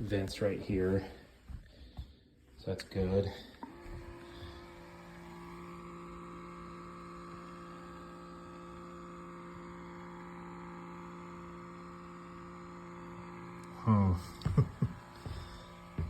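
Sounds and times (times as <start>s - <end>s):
electrical machine hum: 0.0s - 16.0s.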